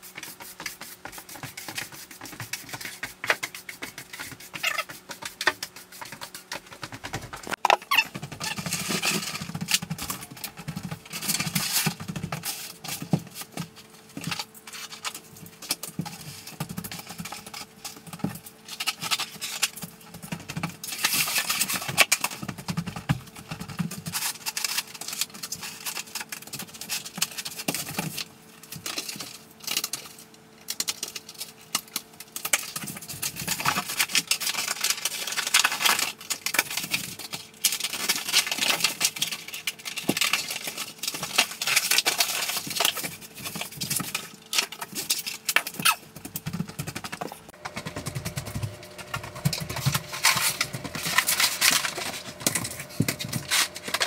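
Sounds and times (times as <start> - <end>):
faint steady hum: 0.0 - 54.0
plastic membrane clicks and scrapes: 0.0 - 54.0.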